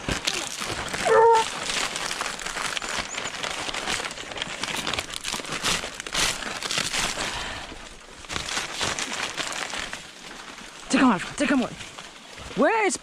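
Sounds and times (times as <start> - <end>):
footsteps in dry leaves: 0.0 - 13.0
rustling undergrowth: 0.0 - 13.0.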